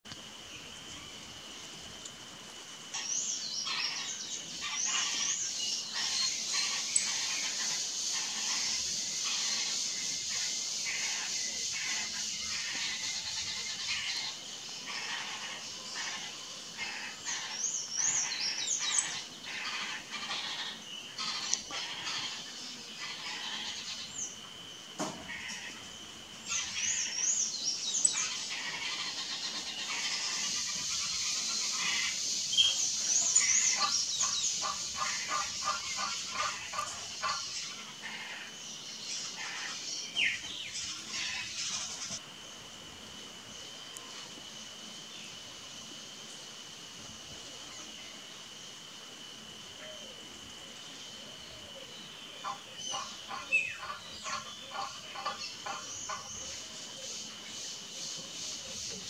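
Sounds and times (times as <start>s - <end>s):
steady high-pitched hiss: 0.0s - 59.0s.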